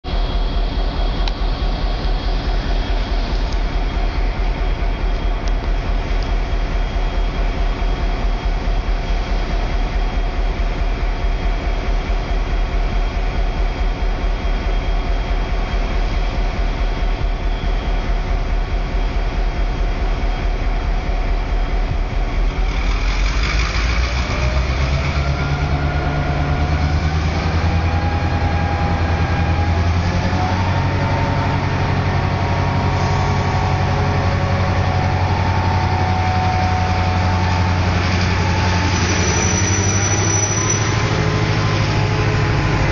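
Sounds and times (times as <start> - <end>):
diesel locomotive engine running: 0.0 - 42.9.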